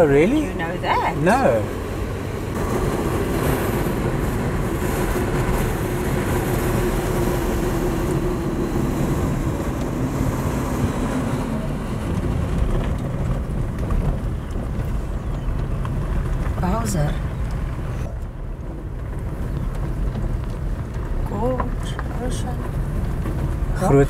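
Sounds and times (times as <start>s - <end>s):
car engine and tyre noise: 0.0s - 24.0s.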